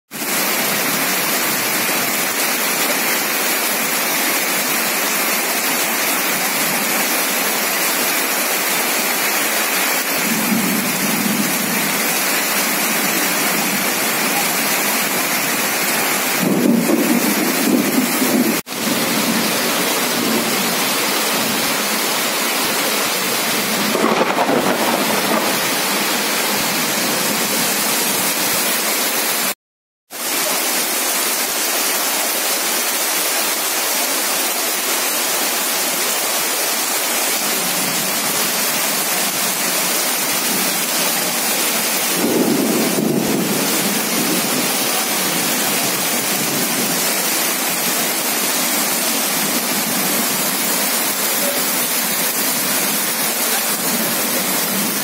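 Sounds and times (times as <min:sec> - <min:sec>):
heavy rain pouring: 0:00.1 - 0:55.0
water streaming off roof edge: 0:00.1 - 0:55.0.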